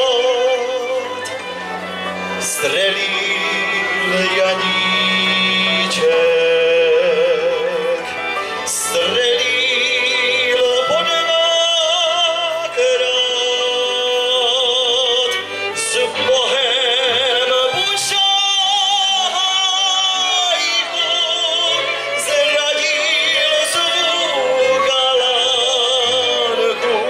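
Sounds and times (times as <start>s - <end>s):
man singing a folk song: 0.0s - 1.6s, 2.4s - 27.0s
violins and cimbalom playing: 0.0s - 27.0s.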